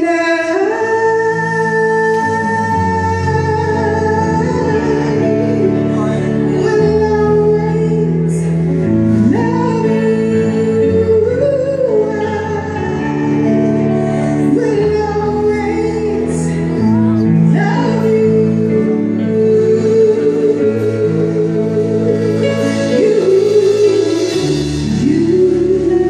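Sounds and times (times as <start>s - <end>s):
keyboard accompaniment: 0.0s - 26.0s
woman singing a slow ballad: 0.0s - 26.0s.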